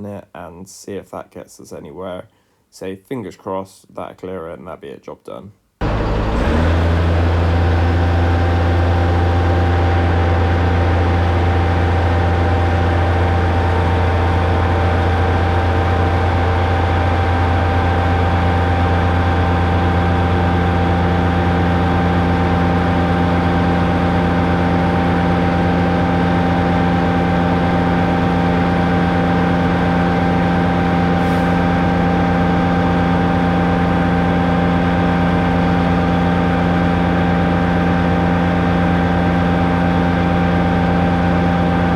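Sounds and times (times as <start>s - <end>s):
truck engine and pump running: 5.8s - 41.9s.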